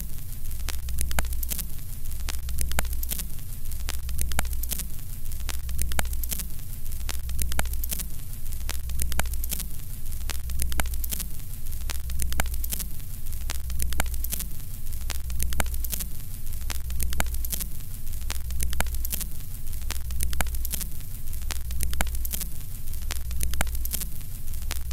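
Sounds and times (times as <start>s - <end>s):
crackling static: 0.0s - 24.9s.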